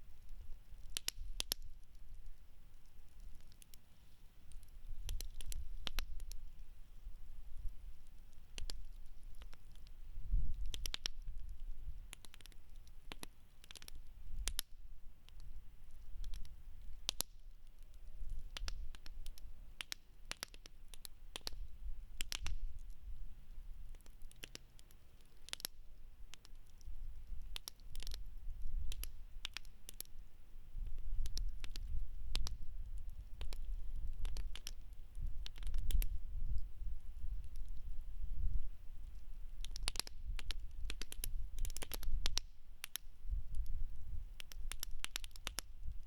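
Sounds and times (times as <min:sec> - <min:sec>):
campfire crackling: 0:00.0 - 0:46.0
low rumble of fire: 0:04.5 - 0:24.6, 0:25.2 - 0:46.0.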